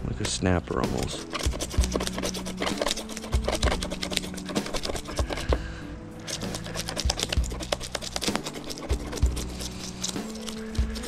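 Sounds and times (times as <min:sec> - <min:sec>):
background music: 0:00.0 - 0:11.0
knife scraping fish scales: 0:01.0 - 0:11.0.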